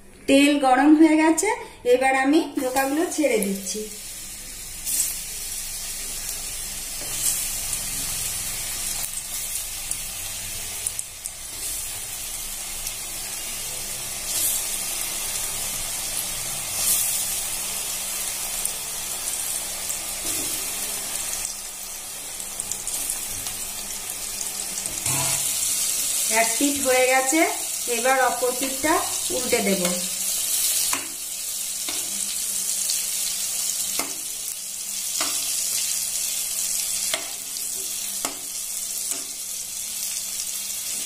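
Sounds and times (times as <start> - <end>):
cakes sizzling in hot oil: 2.5 - 41.0.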